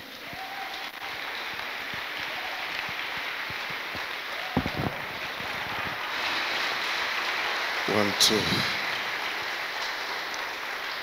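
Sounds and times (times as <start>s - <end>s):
congregation applauding: 0.0s - 11.0s.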